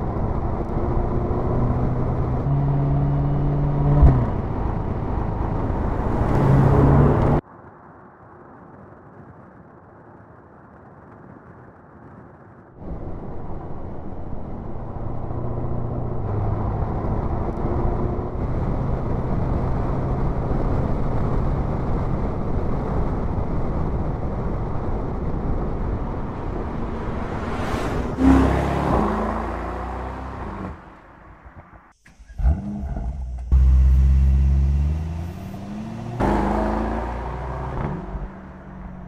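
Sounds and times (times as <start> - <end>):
car engine and exhaust at speed: 0.0 - 7.4, 12.8 - 39.0.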